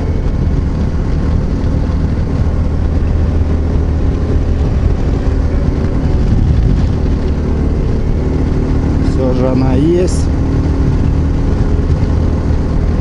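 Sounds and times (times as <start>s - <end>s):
motorcycle engine droning: 0.0s - 13.0s
wind rush on microphone: 0.0s - 13.0s.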